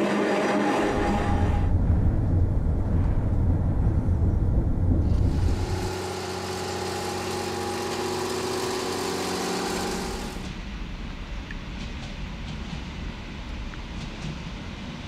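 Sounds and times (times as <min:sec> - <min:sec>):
electric train hum: 0:00.0 - 0:15.0.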